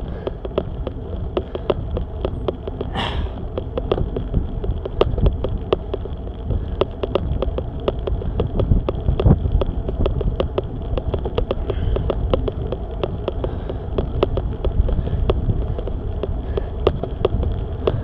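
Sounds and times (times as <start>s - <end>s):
sharp bicycle ticks: 0.0s - 18.0s
wind and road rumble: 0.0s - 18.0s.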